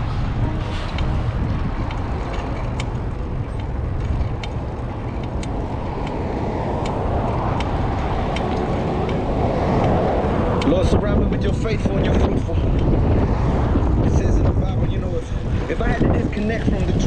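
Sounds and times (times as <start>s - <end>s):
bicycle road noise: 0.0s - 17.0s
wind rumbling on microphone: 0.0s - 17.0s.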